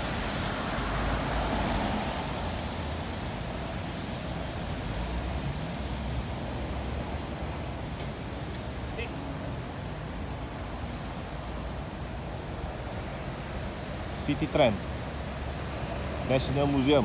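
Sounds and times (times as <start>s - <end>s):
cars passing on a wet road: 0.0s - 17.0s.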